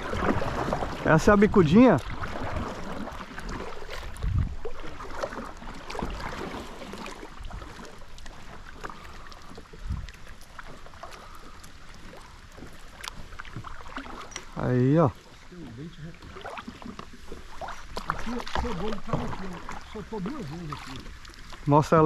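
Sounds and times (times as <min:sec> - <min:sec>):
water: 0:00.0 - 0:22.0
wind: 0:00.0 - 0:22.0.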